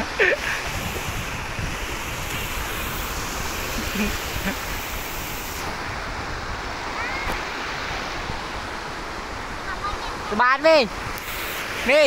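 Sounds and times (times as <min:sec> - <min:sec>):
waves breaking: 0:00.0 - 0:12.0.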